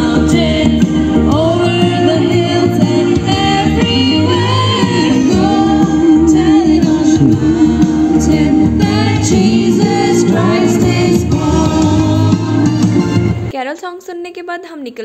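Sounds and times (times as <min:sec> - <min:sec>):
women singing into microphones: 0:00.0 - 0:13.0.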